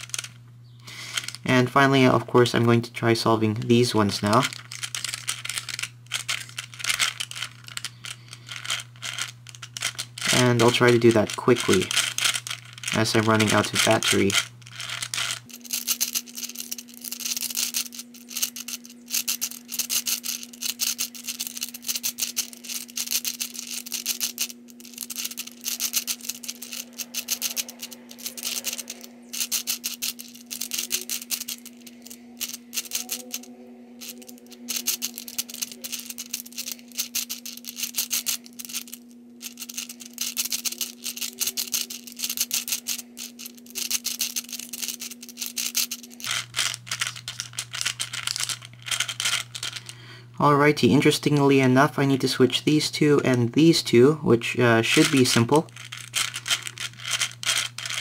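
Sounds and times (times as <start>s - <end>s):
puzzle balls clicking rapidly: 0.0s - 58.0s.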